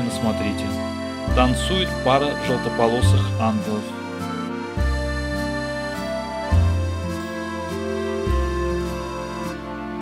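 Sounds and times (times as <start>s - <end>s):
sustained instrumental chords: 0.0s - 10.0s.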